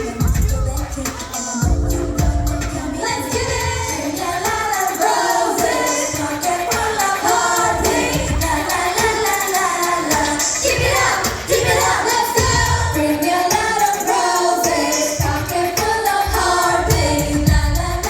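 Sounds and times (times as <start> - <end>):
backing track with bass beat: 0.0 - 18.0
girl group singing pop song: 0.0 - 18.0.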